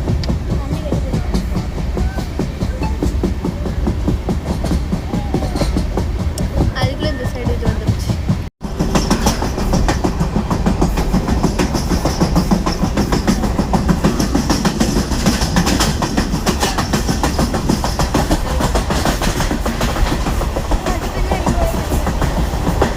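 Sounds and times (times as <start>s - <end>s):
train rumbling and rattling: 0.0s - 22.9s.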